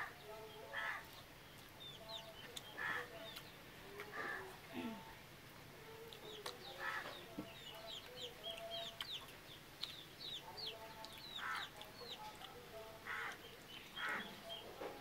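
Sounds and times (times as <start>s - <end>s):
chicks peeping: 0.0s - 4.9s, 5.6s - 15.0s
chickens calling: 0.0s - 15.0s.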